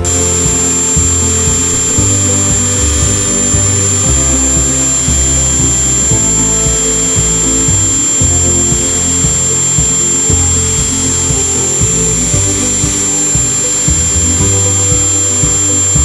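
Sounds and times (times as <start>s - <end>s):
rotary tool high whine: 0.0s - 16.0s
stepper motors whining: 0.0s - 16.0s.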